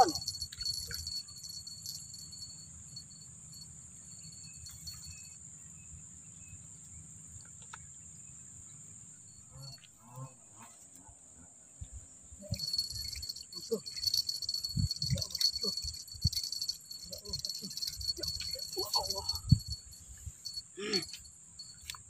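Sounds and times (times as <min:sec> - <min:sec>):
insect chirring: 0:00.0 - 0:10.4, 0:11.8 - 0:22.0.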